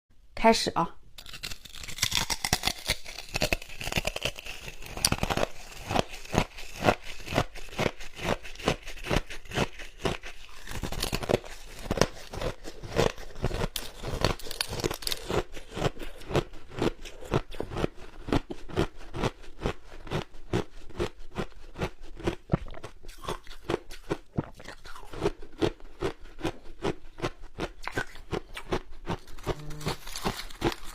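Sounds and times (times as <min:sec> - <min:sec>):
ice being chewed: 0:01.2 - 0:30.9.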